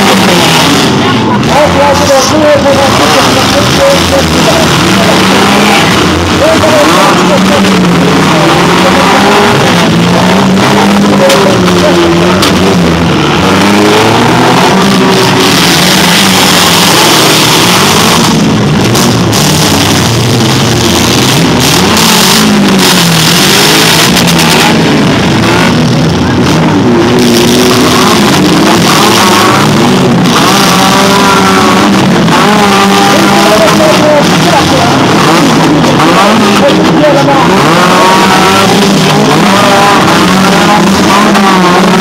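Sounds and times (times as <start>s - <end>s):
car engines revving: 0.0s - 42.0s.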